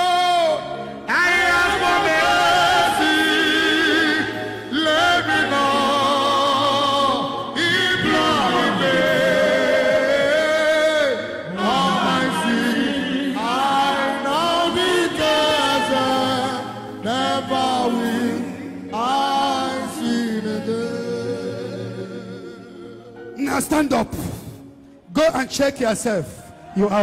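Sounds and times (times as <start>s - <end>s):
voices singing worship song: 0.0s - 24.5s
low musical backing: 0.0s - 27.0s.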